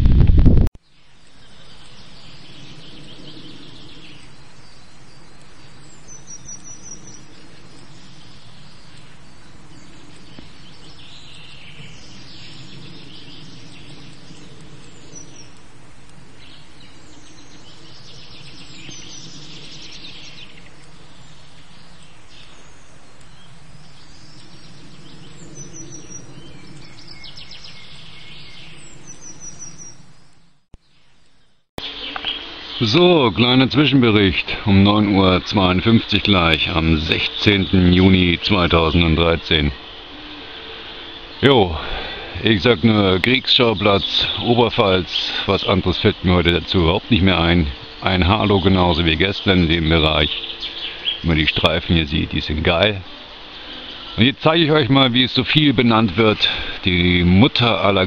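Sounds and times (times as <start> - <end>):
faint high crackling or buzzing: 0.0 - 58.0
low hiss and rumble: 0.0 - 58.0
bird chirps: 0.8 - 58.0.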